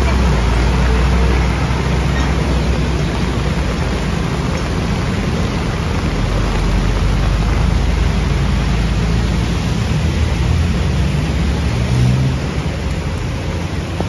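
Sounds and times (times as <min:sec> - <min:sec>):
tyres hissing on wet road: 0:00.0 - 0:14.0
vehicle engines running: 0:00.0 - 0:14.0.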